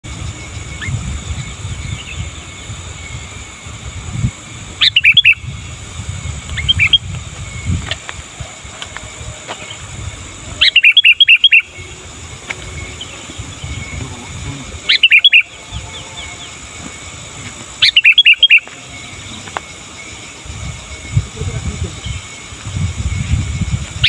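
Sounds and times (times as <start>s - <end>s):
bird chirping: 0.1s - 3.5s, 4.1s - 5.7s, 6.3s - 24.0s.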